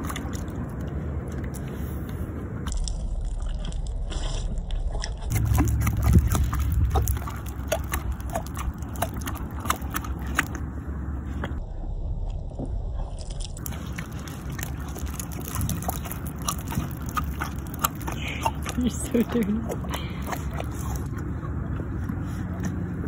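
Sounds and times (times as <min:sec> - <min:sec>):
horse chewing wet feed: 0:00.0 - 0:11.4, 0:13.6 - 0:23.0
low rumble: 0:00.0 - 0:23.0.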